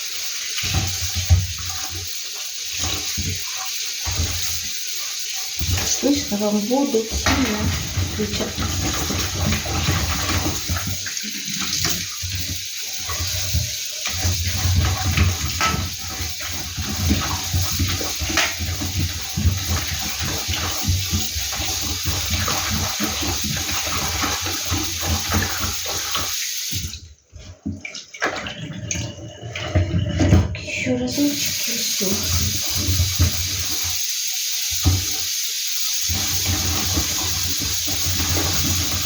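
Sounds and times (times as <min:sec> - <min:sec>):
tap running into sink: 0:00.0 - 0:28.5, 0:29.8 - 0:39.0.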